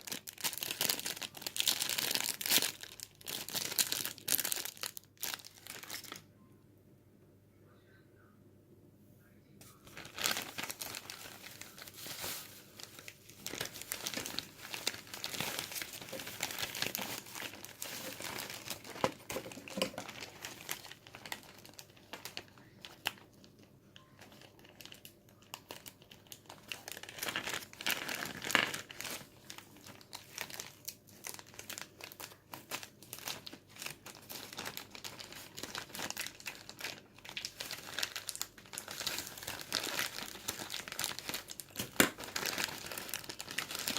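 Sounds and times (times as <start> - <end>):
plastic packaging crinkling: 0.0 - 6.3, 9.6 - 43.9.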